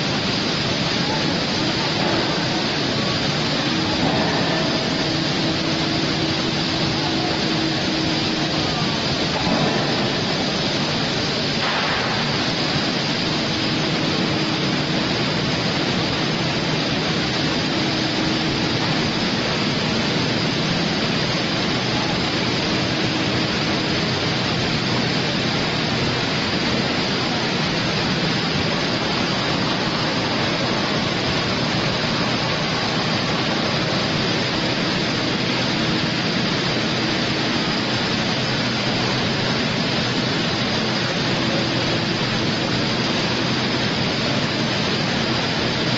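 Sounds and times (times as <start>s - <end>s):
machinery steady hiss: 0.0s - 45.9s.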